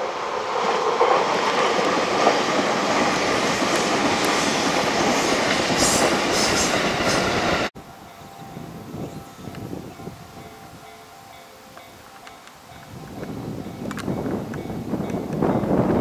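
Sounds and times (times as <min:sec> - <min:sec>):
electric train passing at speed: 0:00.0 - 0:16.0.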